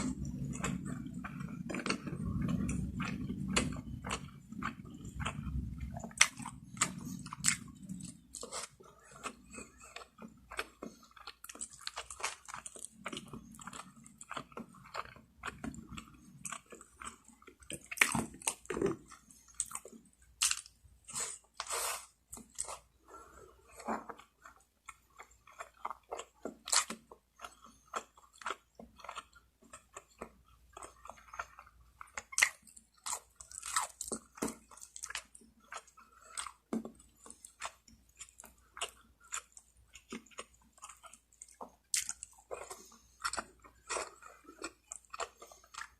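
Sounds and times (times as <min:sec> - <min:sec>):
person chewing crispy food: 0:00.0 - 0:45.9.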